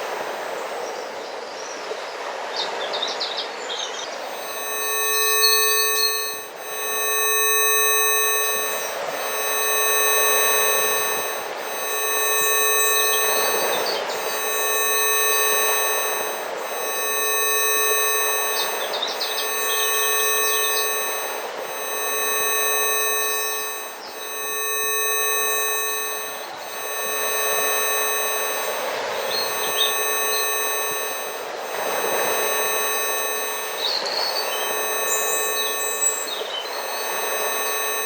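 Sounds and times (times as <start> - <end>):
steady electronic tones: 0.0 - 0.8, 4.2 - 38.0.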